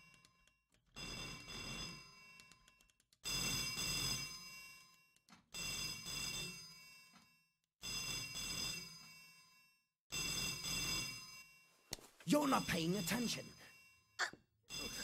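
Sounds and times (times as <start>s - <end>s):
telephone bell ringing: 0.9s - 15.0s.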